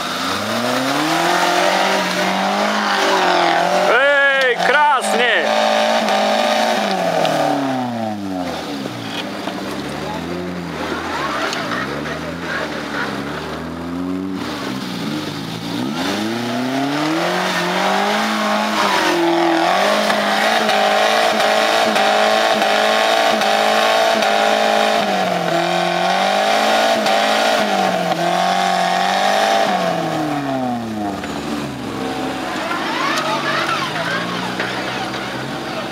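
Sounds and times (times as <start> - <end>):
car engine working hard: 0.0 - 35.9.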